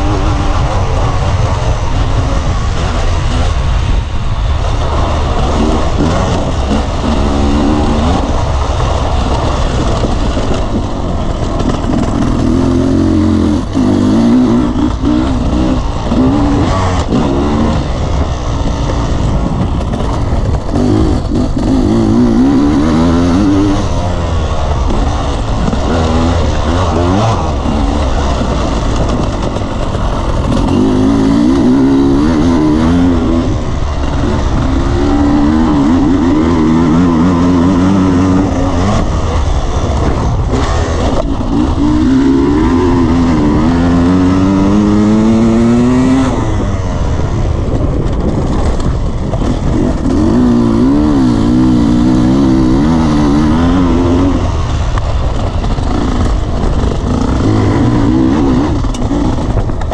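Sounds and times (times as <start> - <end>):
dirt bike engine revving: 0.0 - 59.9
wind and ground rumble: 0.0 - 59.9.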